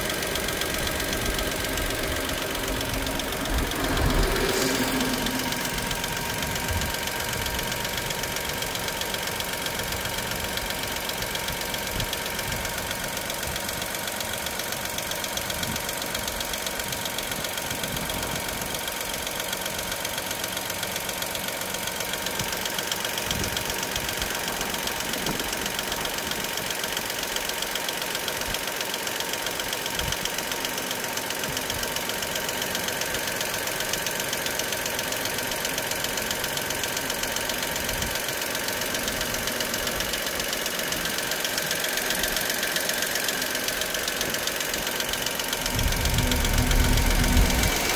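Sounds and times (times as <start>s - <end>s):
car engine idling: 0.0s - 47.9s
fast regular engine ticking: 0.0s - 47.9s.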